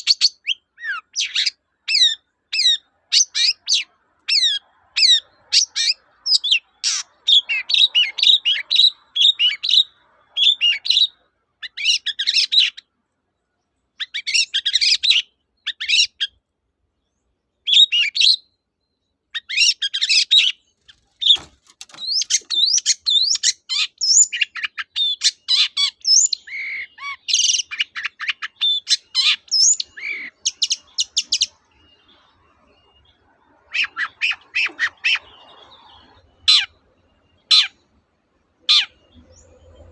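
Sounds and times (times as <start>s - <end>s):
bird singing sharp chirps and whistles: 0.0s - 12.8s, 14.0s - 16.4s, 17.6s - 18.6s, 19.3s - 37.9s.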